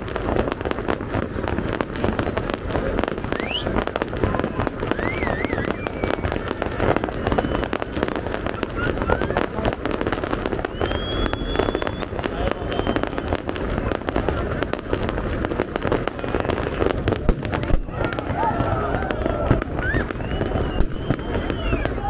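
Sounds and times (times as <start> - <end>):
fireworks bangs and crackling: 0.0 - 22.0
fireworks whistles: 0.0 - 22.0.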